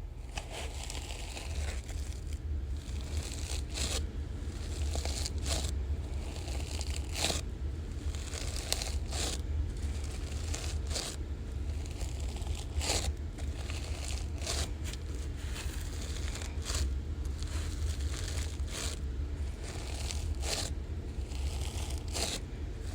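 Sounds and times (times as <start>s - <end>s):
steady low hum: 0.0s - 22.9s
sticky slime crackling and tearing: 0.2s - 22.9s.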